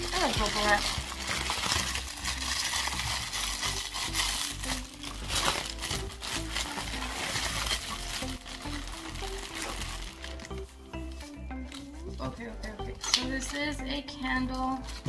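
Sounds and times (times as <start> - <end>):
background music: 0.0 - 15.0
bubble wrap crinkling: 0.0 - 15.0.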